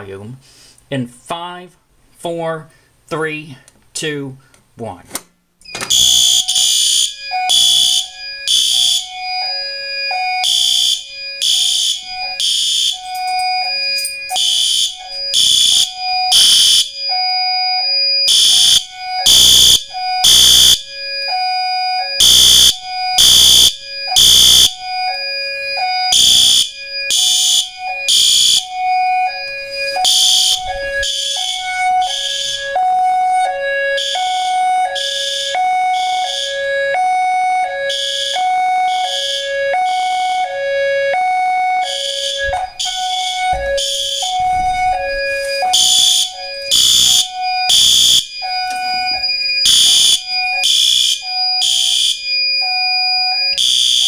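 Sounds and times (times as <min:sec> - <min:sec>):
fire alarm horn blasts: 0:05.7 - 0:54.0
two-pitch alarm tone: 0:05.7 - 0:54.0.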